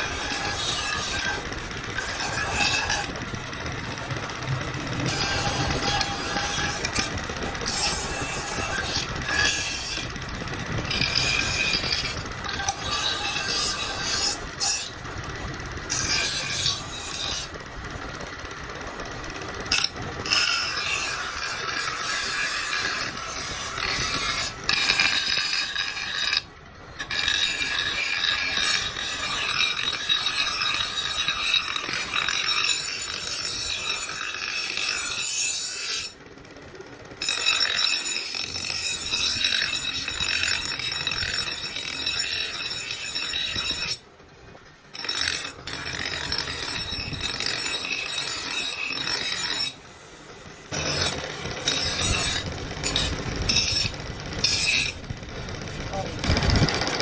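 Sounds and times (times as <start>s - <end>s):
blade scraping on abrasive: 0.0s - 36.2s, 37.2s - 57.0s.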